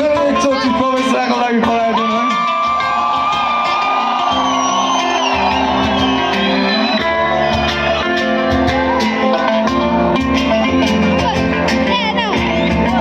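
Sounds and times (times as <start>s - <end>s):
live rock band playing: 0.0s - 13.0s
crowd shouting: 0.8s - 13.0s.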